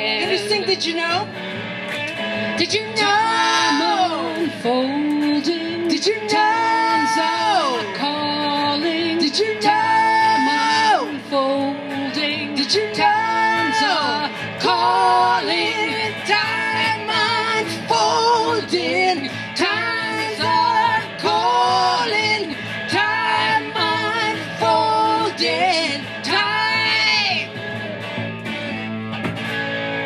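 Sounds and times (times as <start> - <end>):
voices singing: 0.0 - 1.3, 2.4 - 27.6
live pop-rock band: 0.0 - 30.0.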